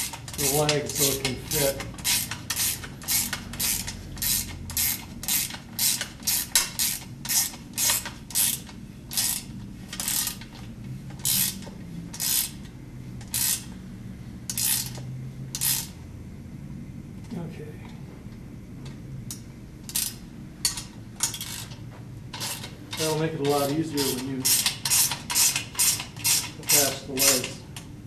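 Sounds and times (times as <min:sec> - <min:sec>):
socket ratchet clicking: 0:00.0 - 0:10.5, 0:11.2 - 0:13.7, 0:14.4 - 0:16.0, 0:19.3 - 0:27.9.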